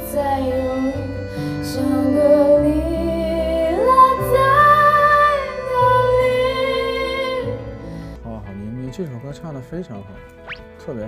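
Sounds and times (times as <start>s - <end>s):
instrumental backing: 0.0s - 11.0s.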